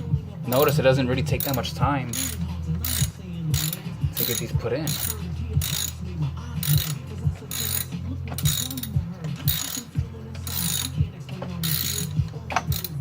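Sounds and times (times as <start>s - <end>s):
socket ratchet clicking: 0.0s - 13.0s.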